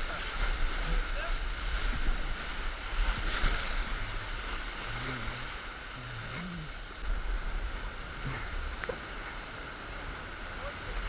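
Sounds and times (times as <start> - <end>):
whitewater rapids roaring: 0.0 - 11.0
wind rumbling on microphone: 0.0 - 11.0.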